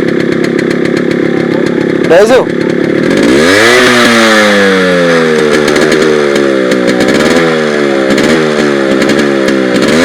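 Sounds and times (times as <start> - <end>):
two-stroke engine revving: 0.0 - 10.0.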